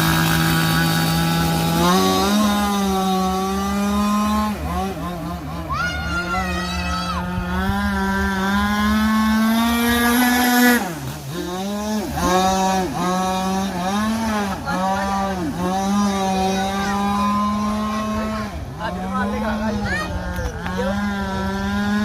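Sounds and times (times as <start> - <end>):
model boat engine at high speed: 0.0 - 22.0.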